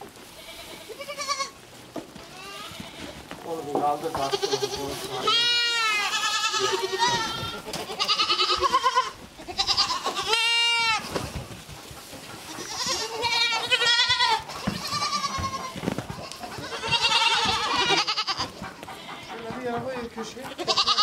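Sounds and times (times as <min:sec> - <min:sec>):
goat kids bleating: 0:00.3 - 0:11.6, 0:12.3 - 0:21.0.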